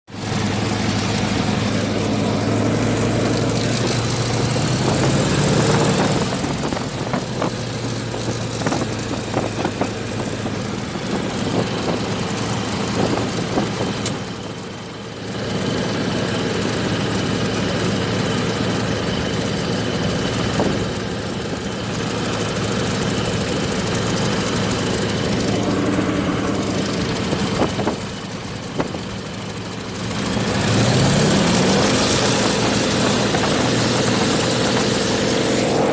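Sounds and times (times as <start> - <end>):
radial aircraft engine running: 0.1 - 35.9.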